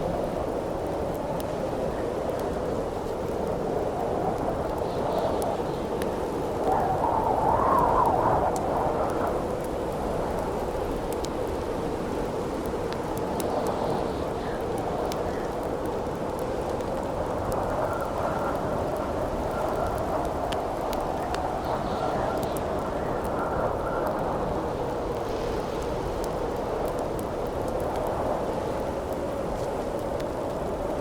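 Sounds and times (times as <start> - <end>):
campfire crackling and popping: 0.0 - 25.2, 25.8 - 31.0
wind howling through forest: 0.0 - 31.0.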